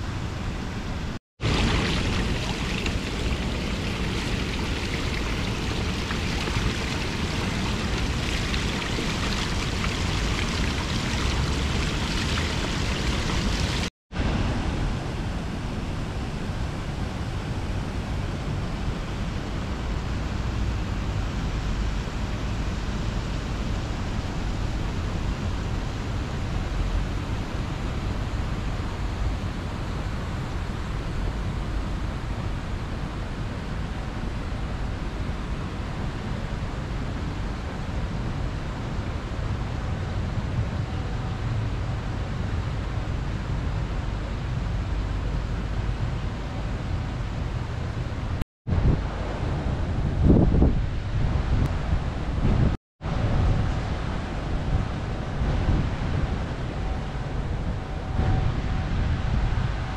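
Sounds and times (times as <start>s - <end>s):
city ambience noise: 0.0s - 59.9s.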